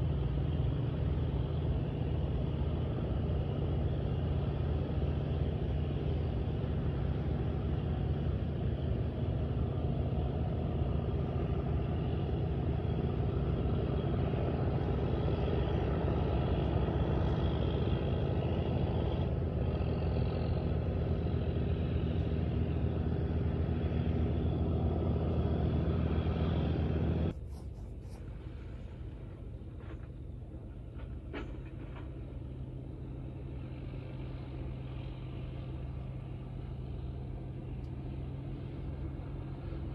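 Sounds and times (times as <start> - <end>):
engine droning hum: 0.0 - 39.9.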